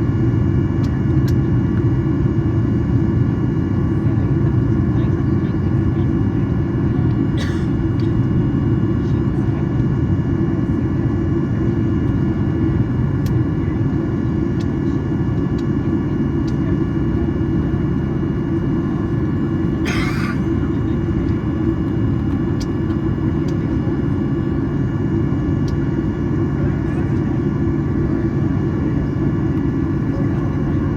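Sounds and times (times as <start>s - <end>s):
airplane cabin rumble: 0.0s - 30.9s.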